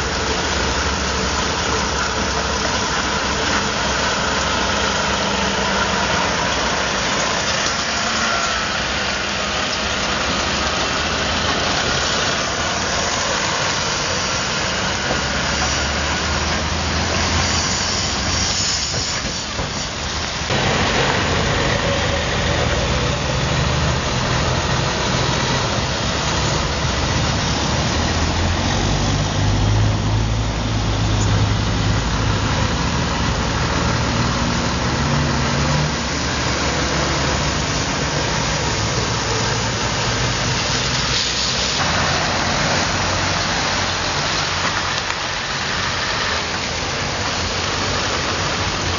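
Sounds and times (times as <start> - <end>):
truck diesel engines: 0.0 - 48.9
tyres hissing on wet road: 0.0 - 48.9.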